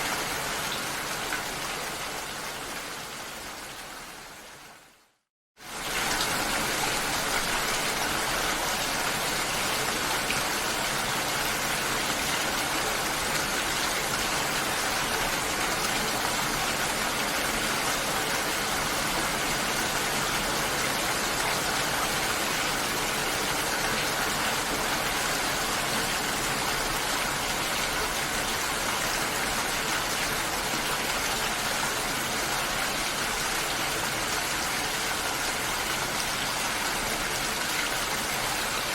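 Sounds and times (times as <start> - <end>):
rushing water: 0.0 - 5.0, 5.6 - 38.9.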